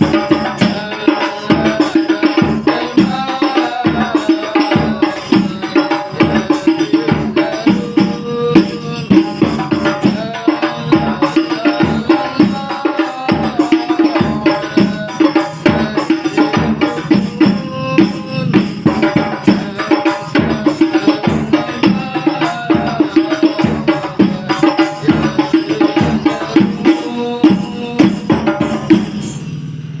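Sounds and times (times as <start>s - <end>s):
voices chanting devotional song: 0.0s - 29.5s
frame drum ensemble playing: 0.0s - 30.0s.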